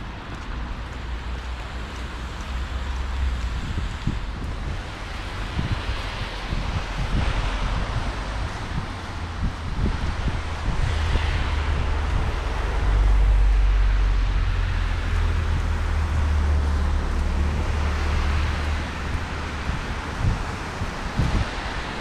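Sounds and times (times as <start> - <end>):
heavy rain: 0.0 - 22.0
thunder rumble: 0.0 - 22.0.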